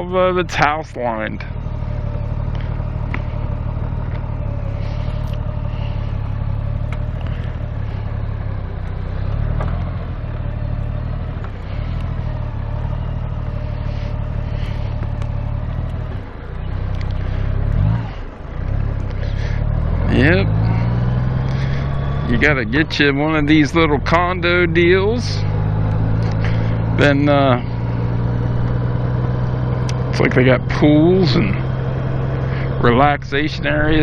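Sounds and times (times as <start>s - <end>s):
motorcycle engine running: 0.0s - 34.0s
road noise: 0.0s - 34.0s.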